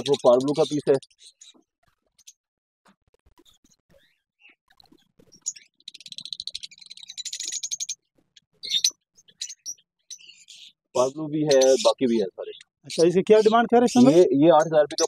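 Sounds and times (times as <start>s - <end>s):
lovebirds chirping: 0.0s - 2.4s, 3.4s - 15.0s.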